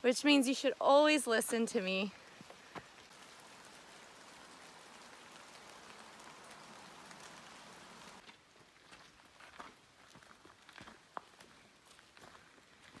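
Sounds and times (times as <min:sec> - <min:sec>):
light rain on foliage: 0:00.0 - 0:13.0.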